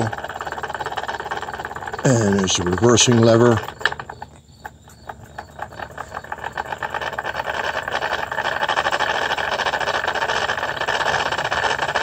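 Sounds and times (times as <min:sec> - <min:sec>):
toy steam engine chuffing: 0:00.0 - 0:12.0.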